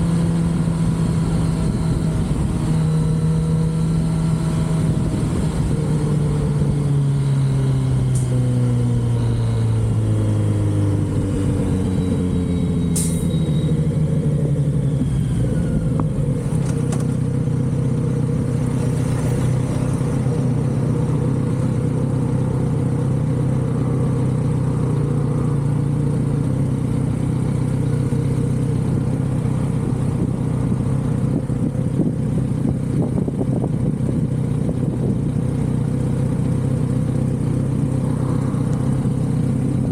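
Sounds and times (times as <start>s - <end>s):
motorcycle engine running: 0.0s - 12.8s, 13.4s - 39.9s.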